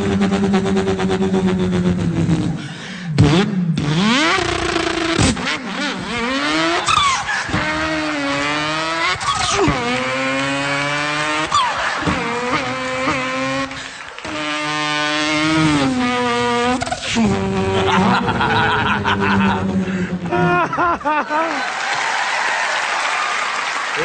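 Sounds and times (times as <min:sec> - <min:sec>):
man imitating racing car engine: 0:00.0 - 0:21.6.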